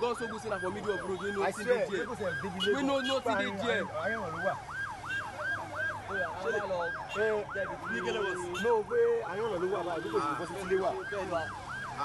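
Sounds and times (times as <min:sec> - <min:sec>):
fire engine siren yelping: 0:00.0 - 0:12.0.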